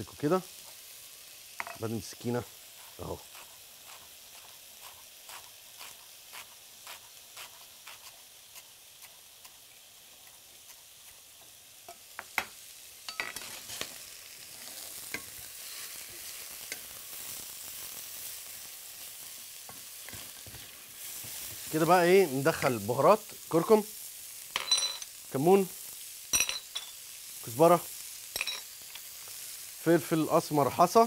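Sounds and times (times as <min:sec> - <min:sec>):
hot oil sizzling: 0:00.0 - 0:31.0.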